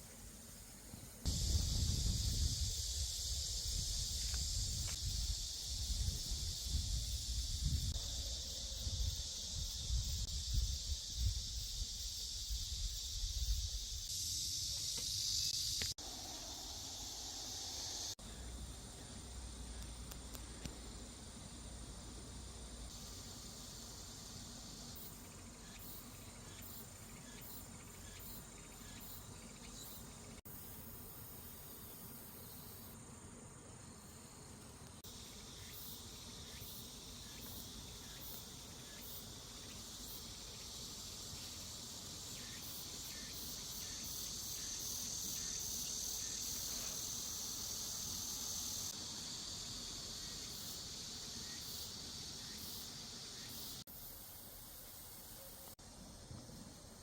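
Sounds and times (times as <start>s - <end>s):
cricket chirps: 0.0s - 57.0s
insects chirring: 0.0s - 57.0s.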